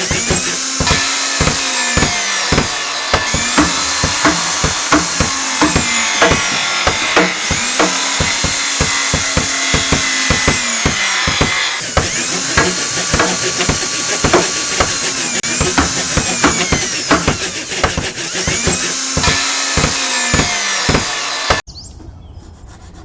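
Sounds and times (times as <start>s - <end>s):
carving tools knocking on wood: 0.0s - 21.6s.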